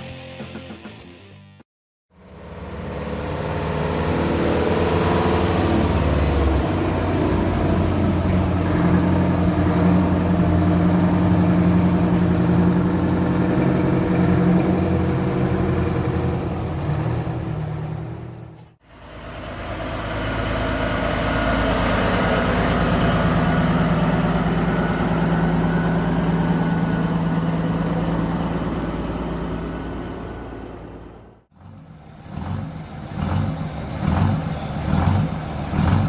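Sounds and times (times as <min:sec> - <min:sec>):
diesel truck engine revving: 0:02.2 - 0:36.0.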